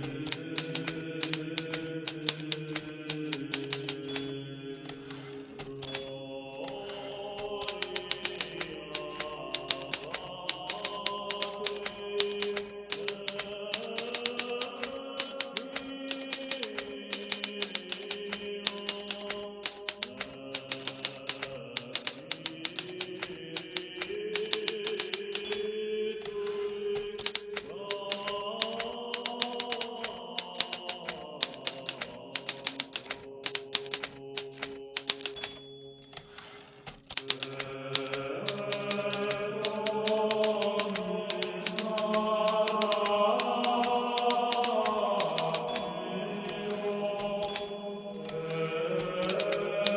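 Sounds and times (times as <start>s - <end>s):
typewriter keystrokes: 0.0s - 49.9s.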